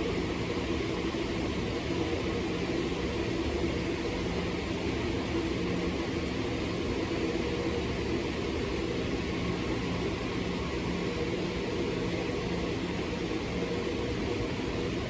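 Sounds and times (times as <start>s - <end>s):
train mechanical hum and rumble: 0.0s - 15.0s.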